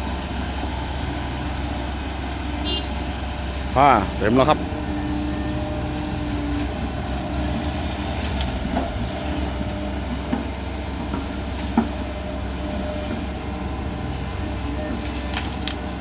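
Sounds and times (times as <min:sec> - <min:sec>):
heavy diesel machinery running: 0:00.0 - 0:16.0.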